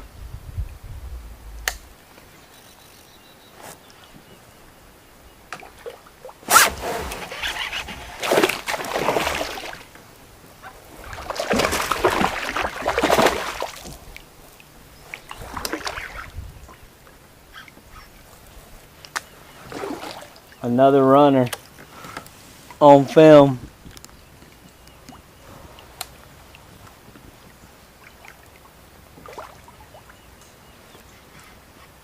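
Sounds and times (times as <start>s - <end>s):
water sloshing around kayak: 5.3s - 32.0s.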